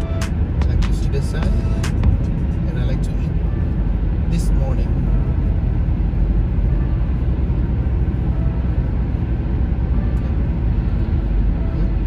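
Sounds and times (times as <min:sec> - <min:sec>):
car road noise at highway speed: 0:00.0 - 0:12.0.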